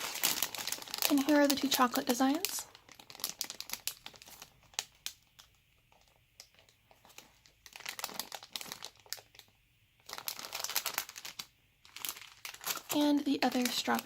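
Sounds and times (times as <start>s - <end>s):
squishy toys crinkling: 0.0s - 14.0s.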